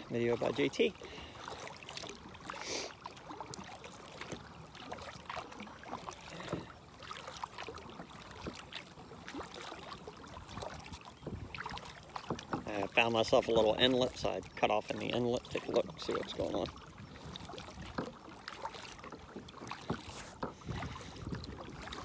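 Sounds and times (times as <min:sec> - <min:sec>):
kayak paddle dipping: 0:00.0 - 0:22.0
water splashing against hull: 0:00.0 - 0:22.0.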